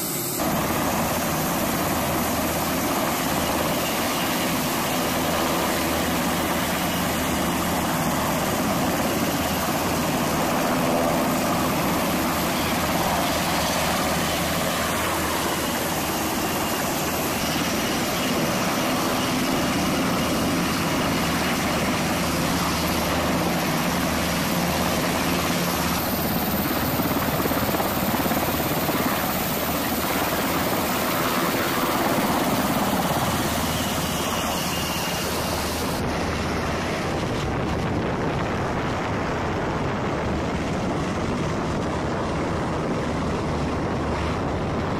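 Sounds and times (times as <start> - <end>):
helicopter rotor and turbine noise: 0.0 - 44.9.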